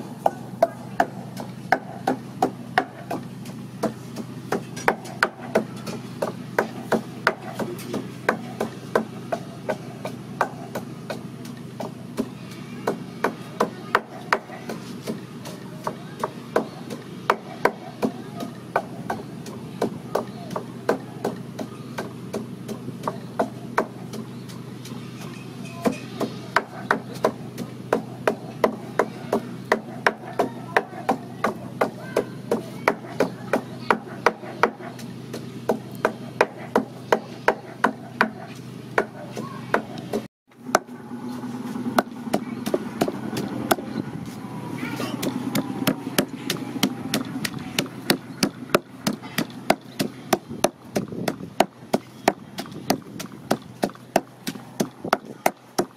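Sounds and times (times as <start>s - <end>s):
pestle pounding in wooden mortar: 0.2s - 25.0s, 25.8s - 41.0s, 41.8s - 55.9s.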